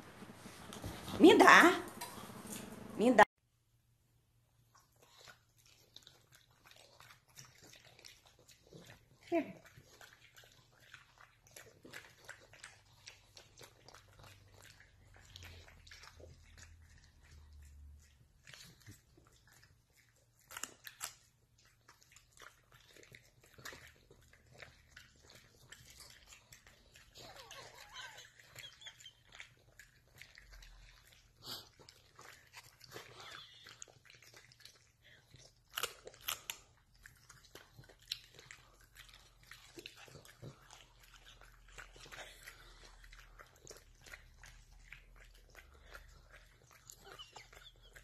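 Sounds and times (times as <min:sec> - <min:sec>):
dogs crunching and chewing treats: 0:04.8 - 0:48.0.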